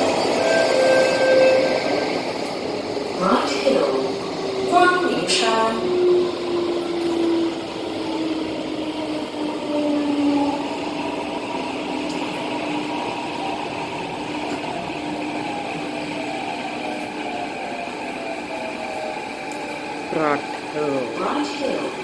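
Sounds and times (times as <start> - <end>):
train rumble and hiss: 0.0 - 22.0.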